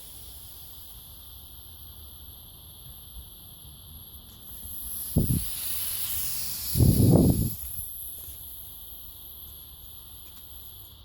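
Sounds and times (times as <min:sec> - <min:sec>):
gas hissing from torch hose: 0:00.0 - 0:11.0.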